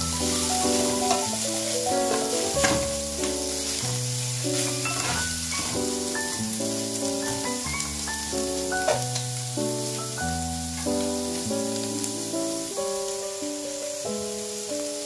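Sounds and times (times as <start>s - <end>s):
background music of held chords: 0.0s - 15.0s
food sizzling in a pan: 0.0s - 15.0s.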